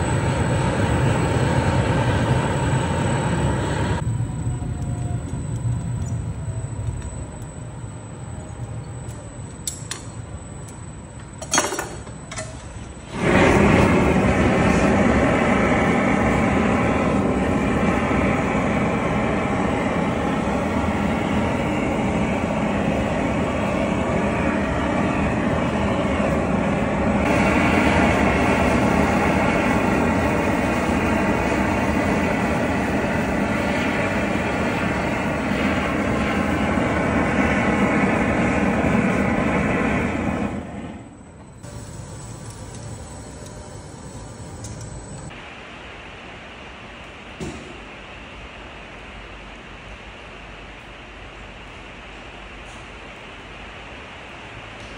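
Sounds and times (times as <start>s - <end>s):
gas torch roaring: 0.0s - 10.8s, 11.4s - 45.6s.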